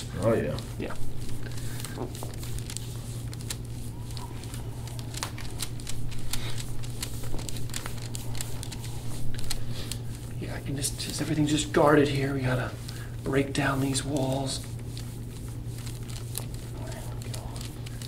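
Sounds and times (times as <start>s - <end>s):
steady low hum: 0.0s - 18.0s
crinkling friction clicks: 0.4s - 18.0s.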